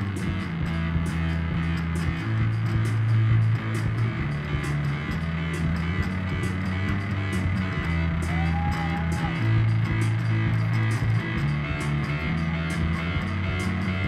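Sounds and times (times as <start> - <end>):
electric bass line: 0.0 - 14.0
keyboards: 0.0 - 14.0
rock band playing live: 0.0 - 14.0.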